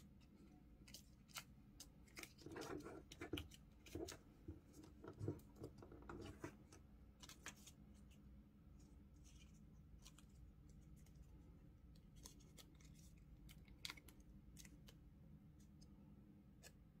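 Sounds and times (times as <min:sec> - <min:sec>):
paper crinkling and crackling: 0:00.2 - 0:08.2, 0:08.8 - 0:15.0.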